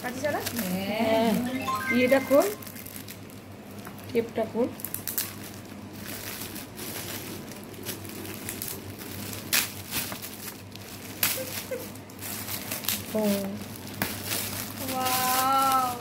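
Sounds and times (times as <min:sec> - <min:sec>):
gift wrap crinkling: 0:00.0 - 0:16.0.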